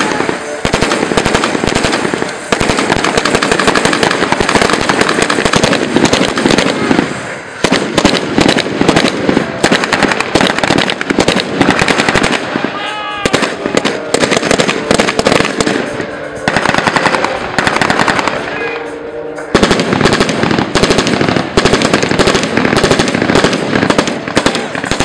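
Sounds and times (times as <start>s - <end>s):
rapid gunfire: 0.0s - 15.9s, 16.5s - 18.4s, 19.6s - 25.0s
pyrotechnic bangs: 0.0s - 18.8s, 19.4s - 25.0s.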